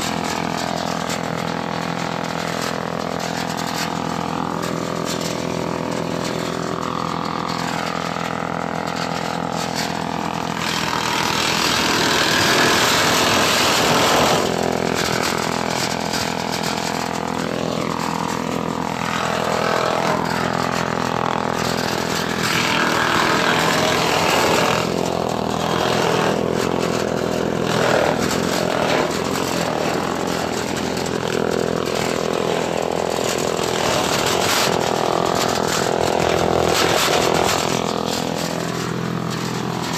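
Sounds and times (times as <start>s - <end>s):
engine-driven grass chopper running: 0.0s - 39.9s.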